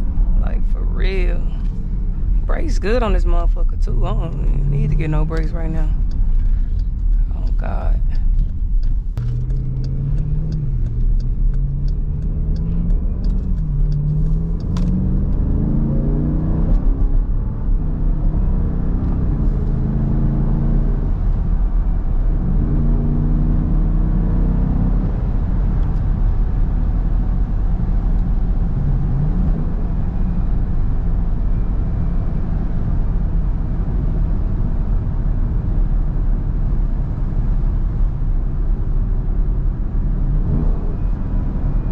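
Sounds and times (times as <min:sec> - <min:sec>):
car engine accelerating: 0:00.0 - 0:41.9.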